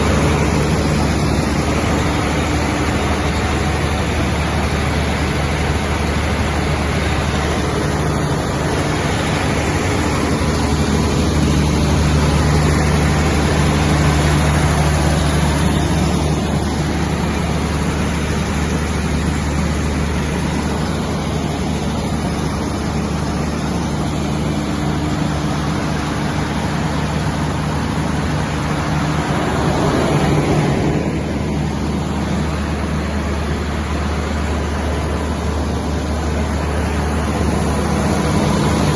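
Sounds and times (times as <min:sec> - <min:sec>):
diesel generator humming: 0:00.0 - 0:38.9.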